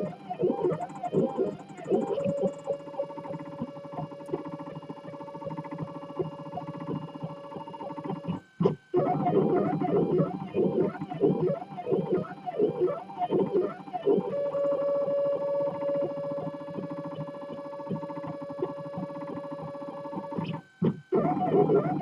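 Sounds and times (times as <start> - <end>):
printer stepper motors whining: 0.0 - 22.0.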